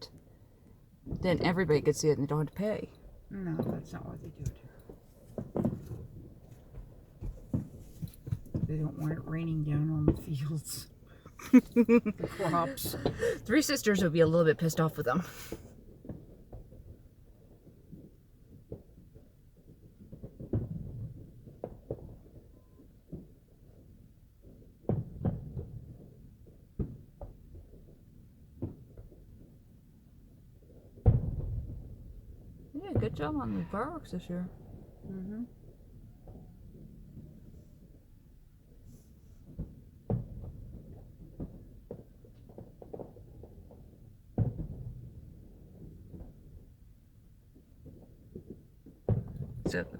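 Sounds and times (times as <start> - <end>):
distant fireworks booming: 0.0 - 49.9.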